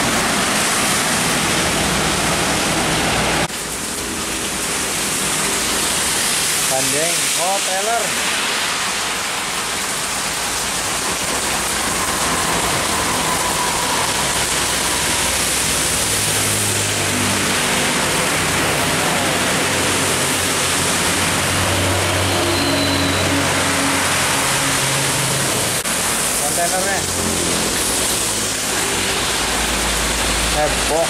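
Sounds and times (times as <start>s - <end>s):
heavy rain falling: 0.0s - 31.0s
truck passing on wet road: 0.0s - 31.0s.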